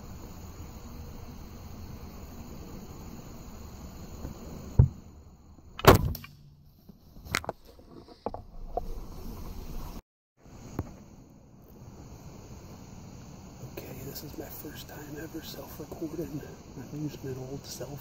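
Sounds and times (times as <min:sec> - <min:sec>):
faint crickets chirping: 0:00.0 - 0:18.0.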